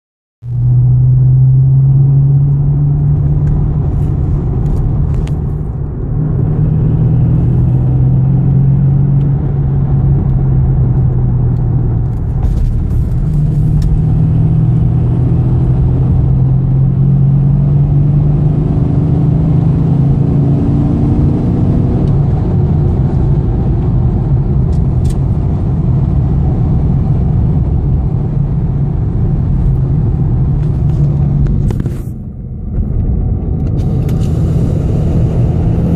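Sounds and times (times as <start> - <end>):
car engine exhaust drone: 0.4 - 35.9.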